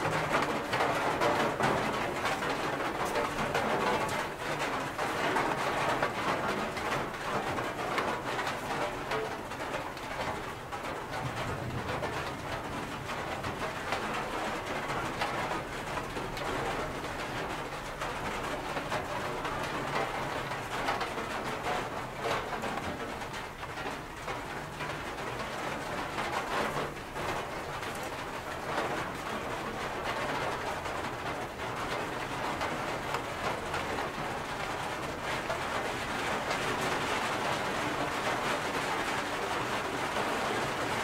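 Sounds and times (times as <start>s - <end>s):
rain pattering: 0.0s - 41.0s.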